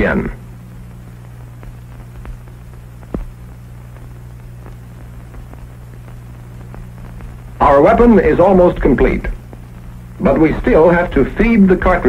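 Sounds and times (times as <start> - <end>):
faint crackles: 0.0 - 12.0
film soundtrack hum and hiss: 0.0 - 12.0.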